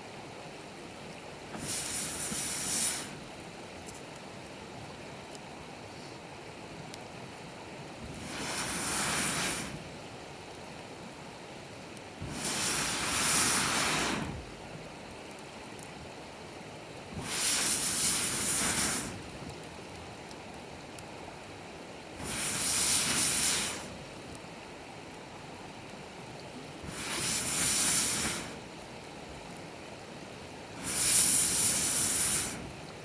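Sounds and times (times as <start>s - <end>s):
steady low hiss: 0.0s - 33.0s.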